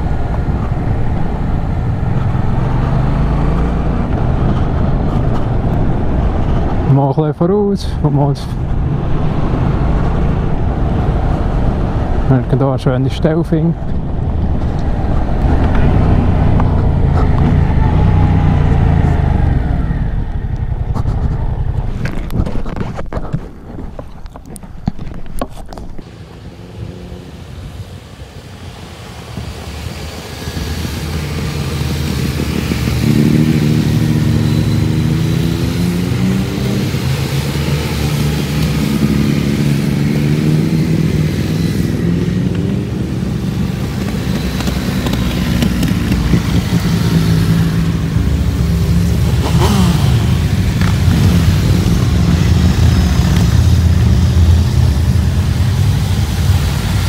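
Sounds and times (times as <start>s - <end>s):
motorcycle engine: 0.0s - 6.9s, 13.8s - 23.4s, 26.0s - 57.0s.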